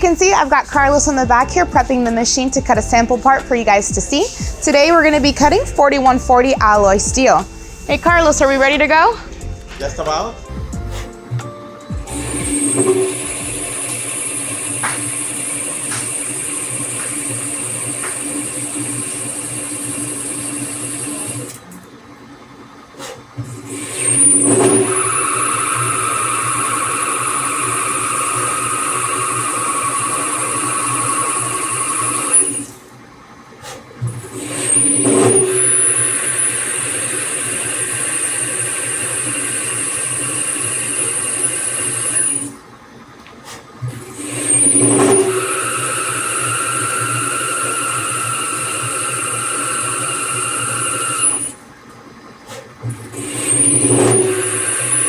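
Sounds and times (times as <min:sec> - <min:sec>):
lathe machine hum with whine: 0:07.4 - 0:55.0.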